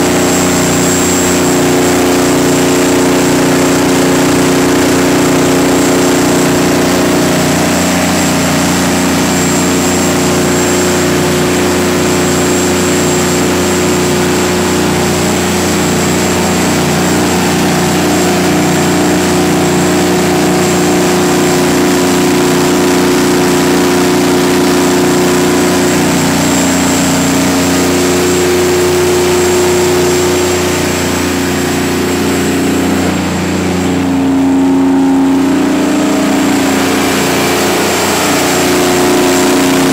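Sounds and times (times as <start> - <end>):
diesel generator engine running: 0.0 - 39.9
high whine: 0.0 - 39.9.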